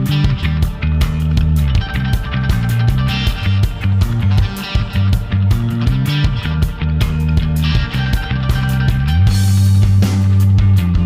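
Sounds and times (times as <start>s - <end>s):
guitar: 0.0s - 11.0s
heavy bass line: 0.0s - 11.0s
steady drum beat: 0.0s - 11.0s.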